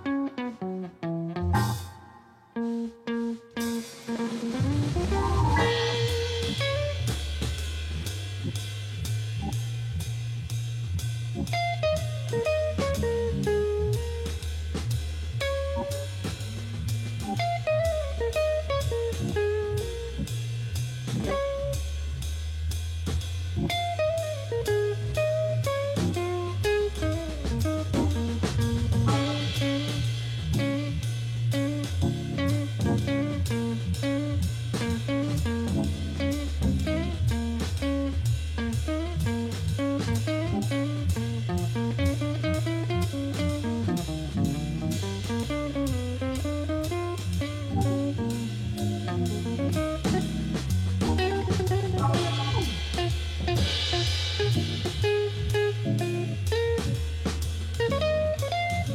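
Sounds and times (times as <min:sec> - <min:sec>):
guitar-led tune: 0:00.0 - 0:07.8, 0:11.4 - 0:22.1, 0:23.6 - 0:58.9
drum-kit beat: 0:00.0 - 0:58.9.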